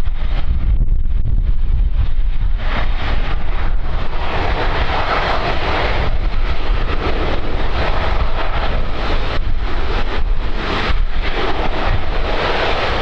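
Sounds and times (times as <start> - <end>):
aircraft engines rushing: 0.0 - 13.0
wind buffeting microphone: 0.0 - 13.0.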